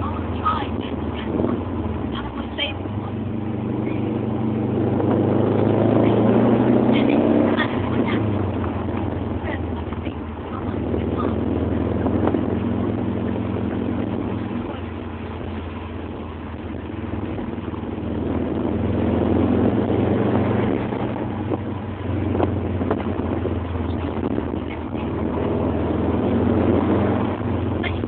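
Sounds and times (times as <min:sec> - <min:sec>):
car engine in cabin: 0:00.0 - 0:28.0
road noise: 0:00.0 - 0:28.0.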